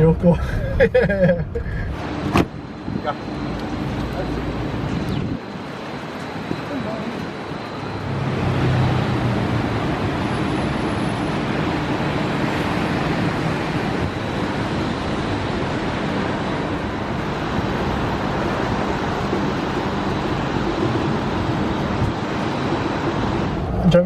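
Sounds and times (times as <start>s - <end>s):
car engine: 0.0s - 24.0s.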